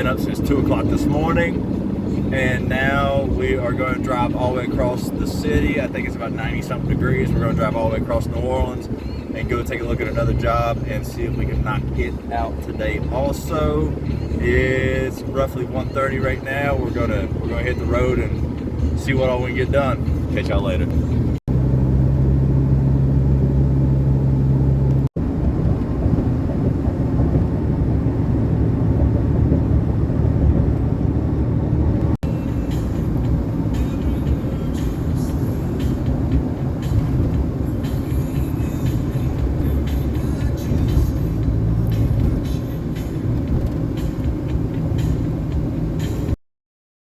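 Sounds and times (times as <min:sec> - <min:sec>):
vehicle engine and road noise: 0:00.0 - 0:46.4.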